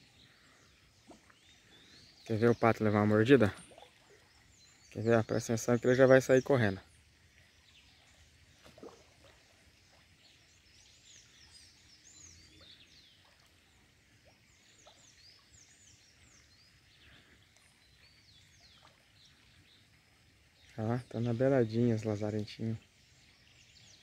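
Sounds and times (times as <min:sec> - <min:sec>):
birds chirping faintly: 0:00.0 - 0:24.0.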